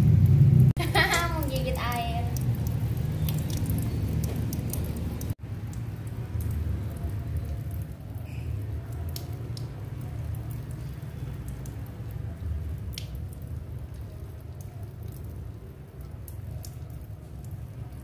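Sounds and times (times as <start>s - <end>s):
hose water splashing on tiles: 0.0s - 18.0s
sharp drips and splashes: 0.0s - 18.0s.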